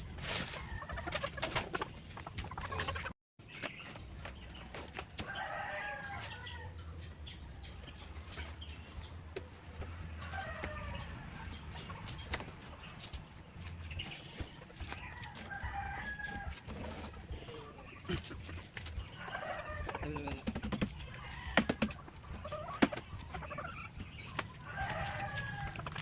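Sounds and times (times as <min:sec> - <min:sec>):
chickens clucking: 0:00.2 - 0:26.0
drawn-out chicken calls: 0:00.2 - 0:26.0.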